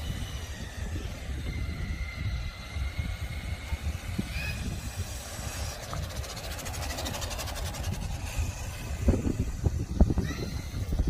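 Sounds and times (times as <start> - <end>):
electric motor whining: 0.0 - 11.0
low uneven rumble: 0.0 - 11.0.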